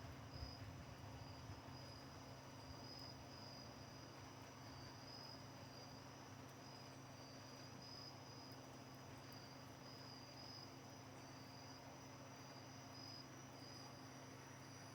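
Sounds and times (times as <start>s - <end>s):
crickets trilling: 0.1s - 6.0s, 6.6s - 14.9s.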